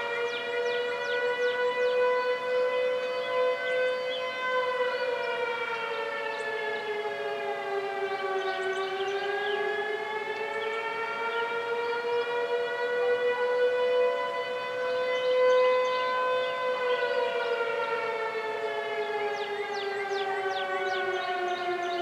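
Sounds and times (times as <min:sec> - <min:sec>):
storm warning siren: 0:00.0 - 0:22.0.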